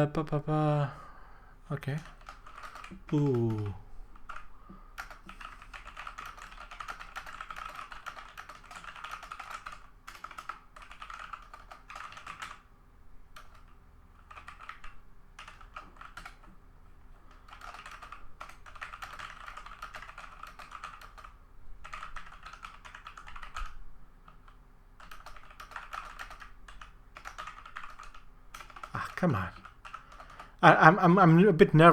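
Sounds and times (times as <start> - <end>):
mechanical keyboard typing: 1.8 - 16.6, 17.2 - 31.1.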